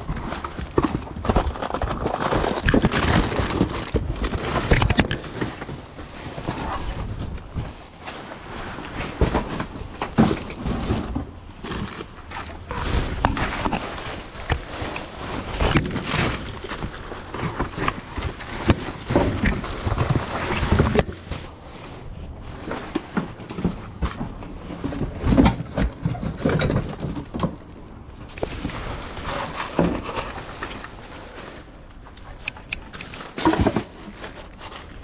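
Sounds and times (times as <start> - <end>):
packaging and cardboard rustling: 0.0 - 35.0.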